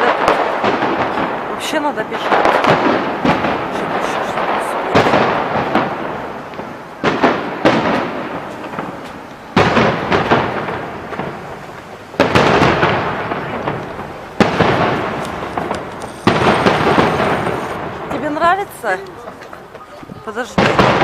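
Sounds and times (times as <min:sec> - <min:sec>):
fireworks bangs: 0:00.0 - 0:21.0
fireworks rumble: 0:00.0 - 0:21.0.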